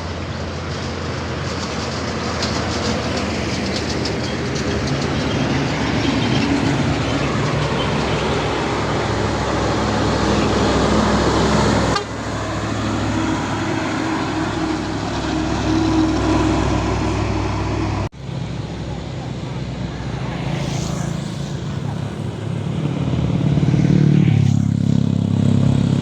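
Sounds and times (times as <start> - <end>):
diesel truck engines rumbling: 0.0 - 26.0.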